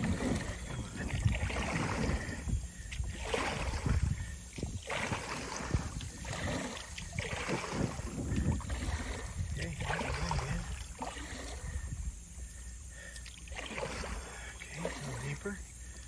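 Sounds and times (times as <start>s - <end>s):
paddle splashing in water: 0.0s - 16.0s
steady low rumble: 0.0s - 16.0s.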